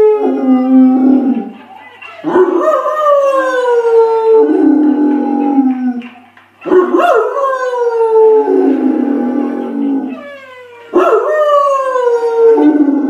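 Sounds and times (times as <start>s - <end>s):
dog howling: 0.0s - 13.0s.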